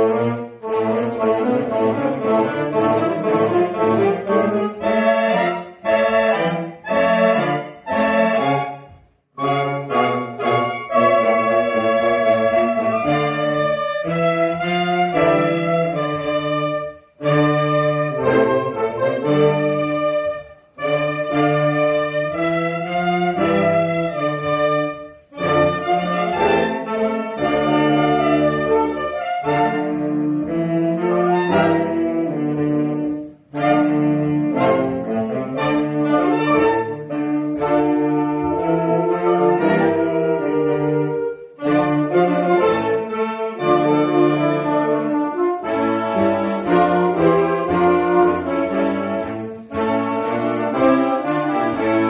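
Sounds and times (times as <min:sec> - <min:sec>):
saxophone ensemble playing chords: 0:00.0 - 0:52.0.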